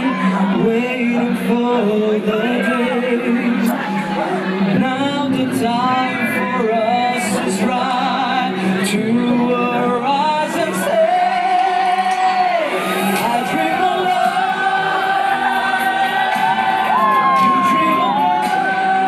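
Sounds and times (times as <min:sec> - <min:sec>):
backing music: 0:00.0 - 0:19.0
man singing into a microphone: 0:00.0 - 0:19.0.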